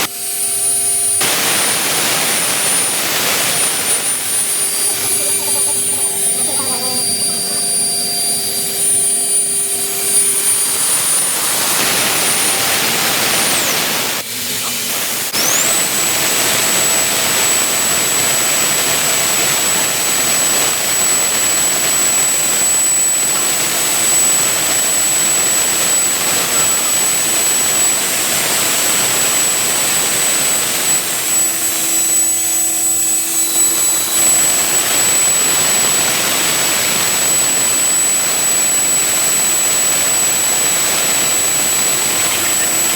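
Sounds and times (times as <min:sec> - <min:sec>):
high spindle whine: 0:00.0 - 0:42.9
milling machine running: 0:00.0 - 0:42.9.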